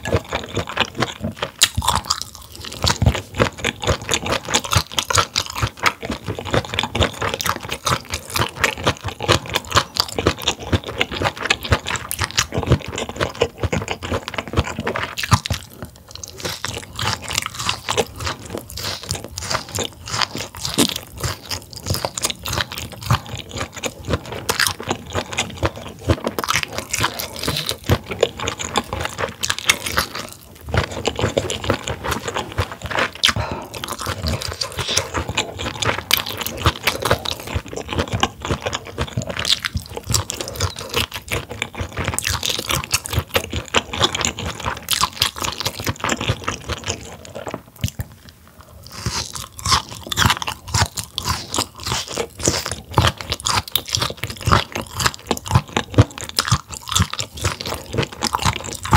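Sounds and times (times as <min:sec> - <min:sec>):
chewing crisp food crunches: 0:00.0 - 0:58.9.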